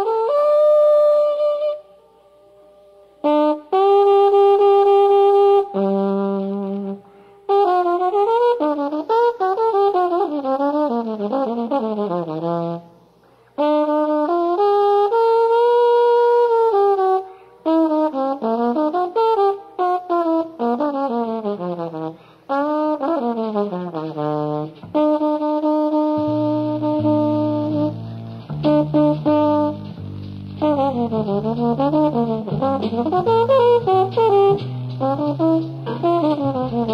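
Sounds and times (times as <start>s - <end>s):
trombone jazz solo: 0.0s - 1.9s, 3.0s - 36.9s.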